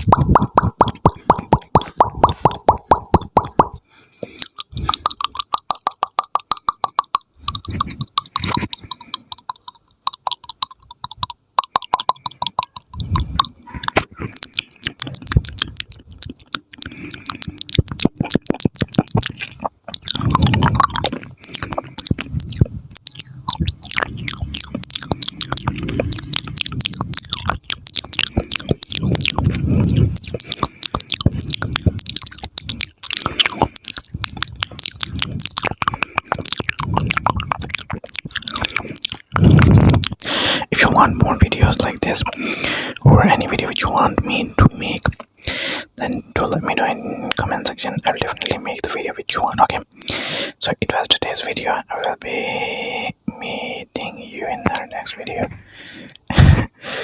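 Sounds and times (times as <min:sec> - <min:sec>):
wet mouth clicks and lip smacks: 0:00.0 - 0:56.5.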